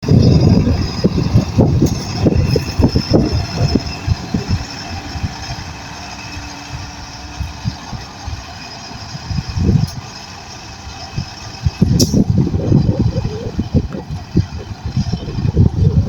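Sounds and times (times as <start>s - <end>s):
heavy diesel engine knocking: 0.0s - 16.0s.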